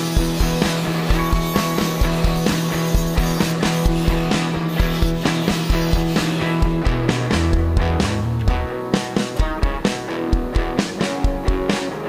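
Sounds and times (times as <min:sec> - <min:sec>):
rock music with guitar: 0:00.0 - 0:12.0
steady drum beat: 0:00.2 - 0:11.7.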